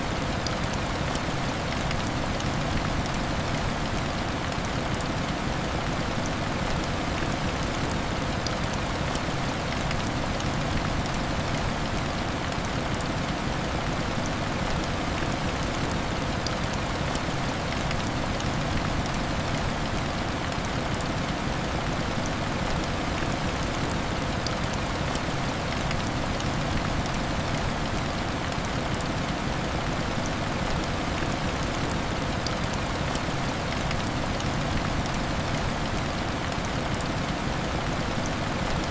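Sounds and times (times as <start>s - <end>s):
heavy rain: 0.0s - 38.9s
ticks of raindrops: 0.0s - 38.9s.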